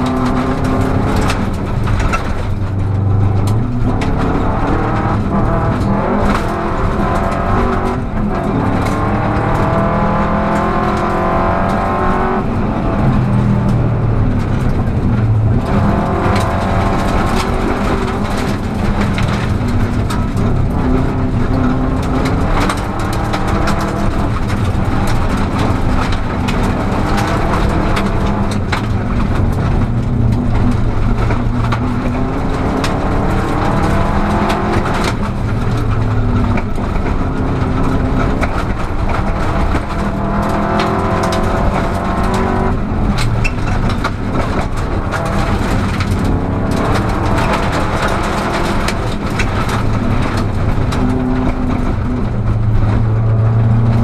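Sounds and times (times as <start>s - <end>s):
gravel clatter under car: 0.0s - 54.0s
rally car engine from cabin: 0.0s - 54.0s.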